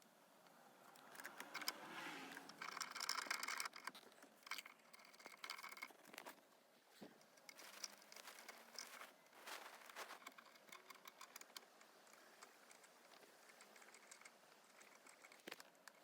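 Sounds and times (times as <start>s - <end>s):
faint clicks and rustles: 0.3s - 16.0s.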